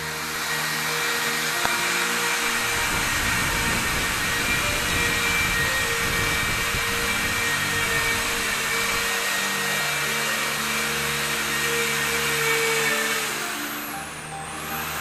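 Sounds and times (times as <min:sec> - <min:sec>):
machine whirring hiss: 0:00.0 - 0:15.0.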